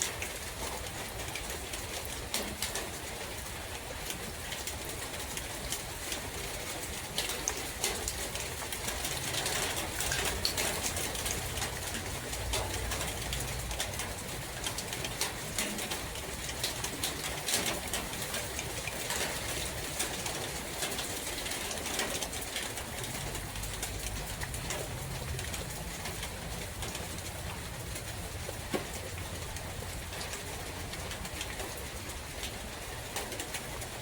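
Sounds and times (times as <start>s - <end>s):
drips ticking: 4.0s - 34.0s.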